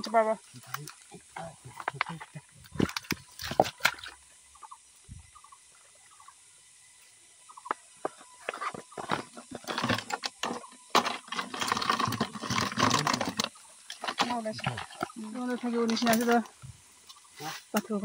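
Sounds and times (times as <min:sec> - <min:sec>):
leaves and twigs rustling: 0:00.0 - 0:18.0.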